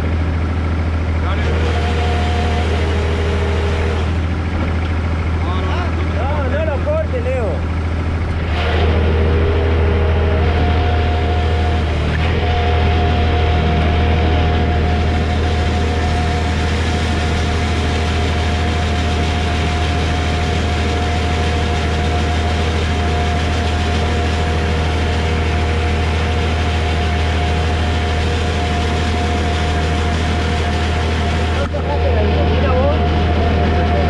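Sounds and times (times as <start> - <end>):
feed mixer machine drone: 0.0 - 34.0
high machine whine: 0.0 - 34.0.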